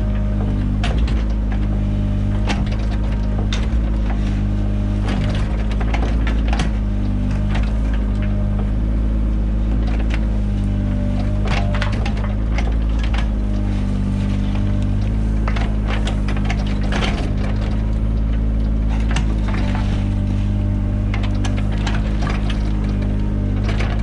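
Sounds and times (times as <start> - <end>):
digging gear clicks and knocks: 0.0 - 24.0
excavator engine running: 0.0 - 24.0.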